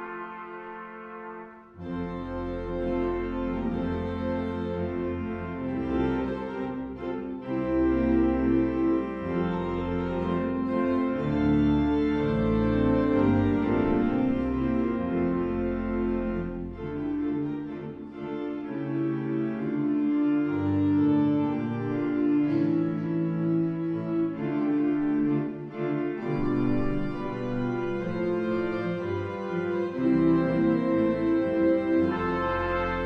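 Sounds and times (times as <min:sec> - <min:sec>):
organ playing held chords: 0:00.0 - 0:33.0.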